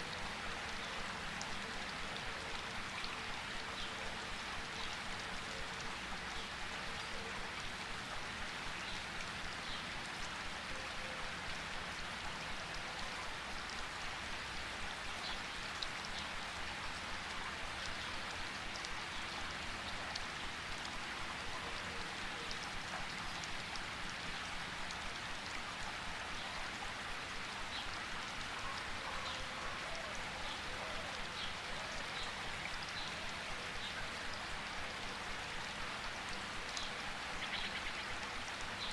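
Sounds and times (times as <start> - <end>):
raindrops ticking on surfaces: 0.0 - 38.9.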